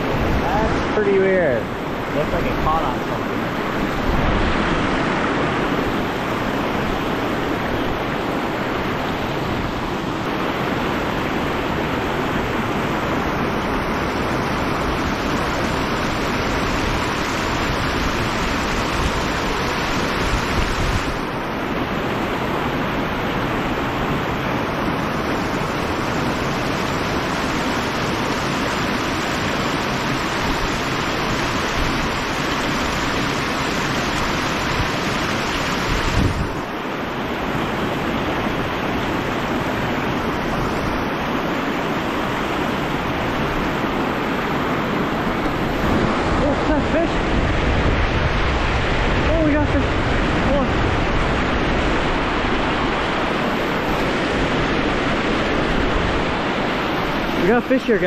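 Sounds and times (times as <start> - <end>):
wind rumble on microphone: 0.0 - 57.7
river rushing over rocks: 0.0 - 58.0.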